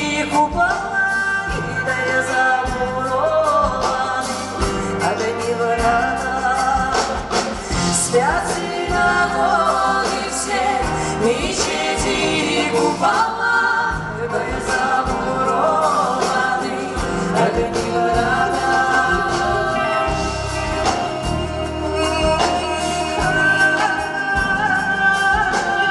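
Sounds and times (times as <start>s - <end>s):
song with singing voice: 0.0s - 25.9s.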